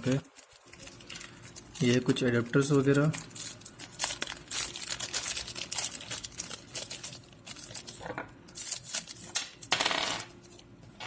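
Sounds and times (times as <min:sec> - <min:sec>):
packaging rustling and crinkling: 0:00.0 - 0:09.7.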